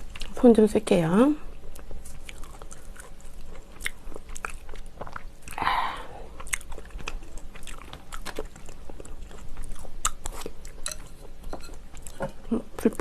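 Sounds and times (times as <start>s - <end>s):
wet crunchy chewing: 0.0s - 0.4s, 1.5s - 5.6s, 6.2s - 12.3s.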